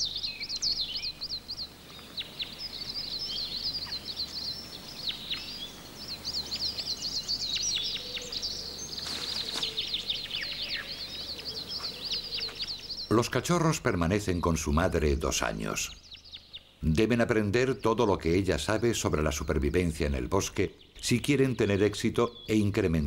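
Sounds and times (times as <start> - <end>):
songbirds chirping and twittering: 0.0 - 23.0.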